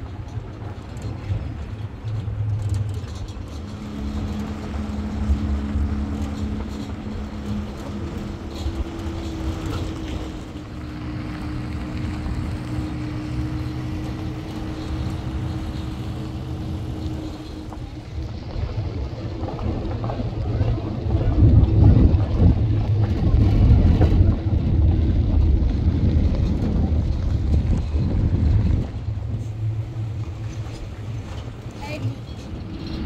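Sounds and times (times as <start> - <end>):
hum: 0.0 - 33.0
low rumble: 0.0 - 33.0.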